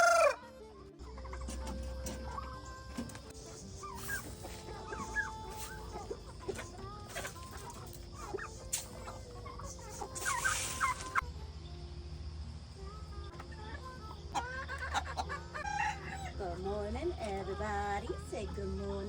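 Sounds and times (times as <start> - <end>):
chickens clucking: 0.0 - 0.4, 1.0 - 11.2, 13.2 - 19.0.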